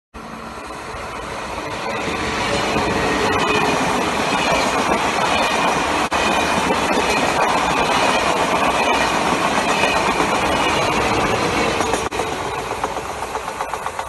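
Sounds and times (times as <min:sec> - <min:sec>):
high-speed train passing: 0:00.2 - 0:14.0
wheels on rail: 0:00.2 - 0:14.0.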